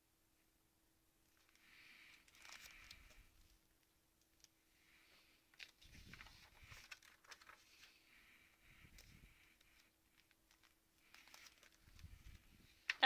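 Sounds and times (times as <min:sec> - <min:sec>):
plastic pages rustling: 0:01.3 - 0:04.6, 0:05.2 - 0:13.0.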